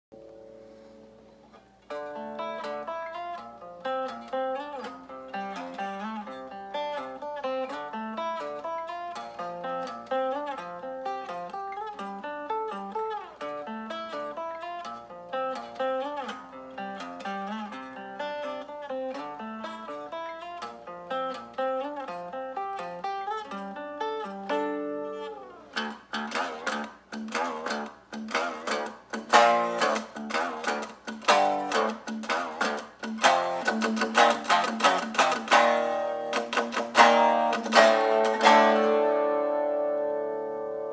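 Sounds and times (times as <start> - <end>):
electric guitar: 0.2 - 40.9.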